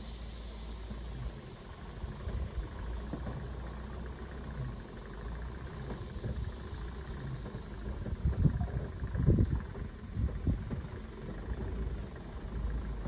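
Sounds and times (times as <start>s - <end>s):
truck engine at low revs: 0.0s - 13.0s.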